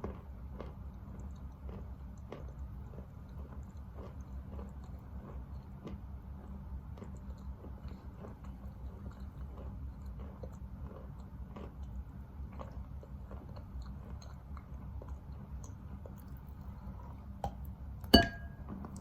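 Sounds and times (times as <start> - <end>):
chewing chalk crunches: 0.0 - 17.2
low steady hum: 0.0 - 19.0.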